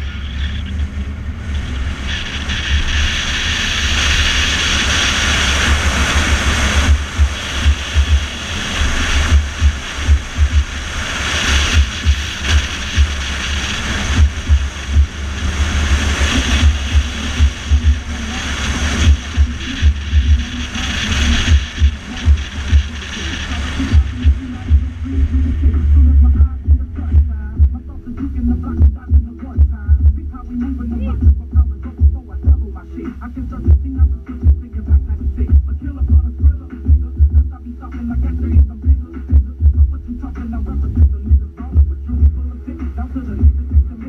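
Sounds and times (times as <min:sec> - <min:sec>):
low thumps: 0:00.0 - 0:32.8, 0:33.5 - 0:37.6, 0:38.3 - 0:42.6, 0:43.4 - 0:44.0
road and wind noise: 0:00.0 - 0:44.0.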